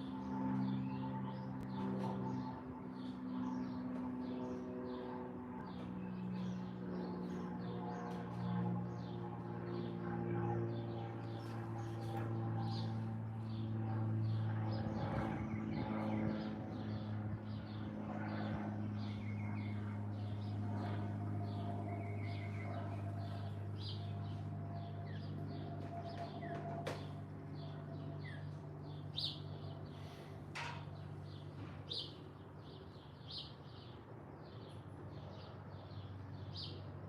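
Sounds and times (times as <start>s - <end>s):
steady low hum: 0.0s - 37.0s
songbirds chirping: 0.1s - 37.0s.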